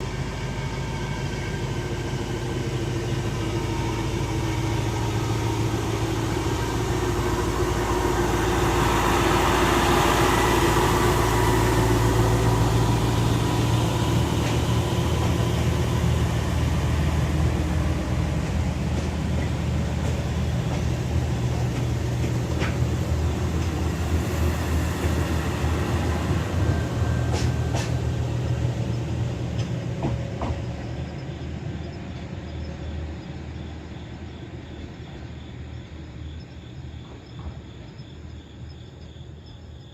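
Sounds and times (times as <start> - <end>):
diesel engines of rail machines: 0.0 - 39.9.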